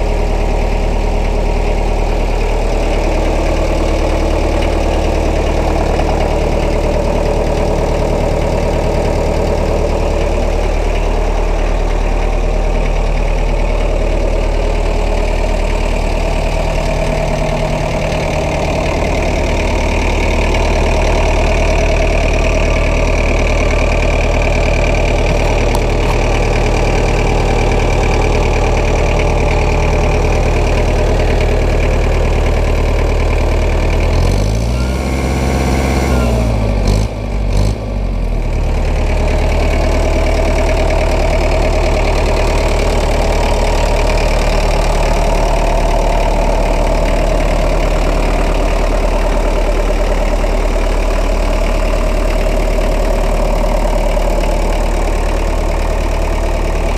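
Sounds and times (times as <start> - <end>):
tractor engine idling: 0.0 - 56.9.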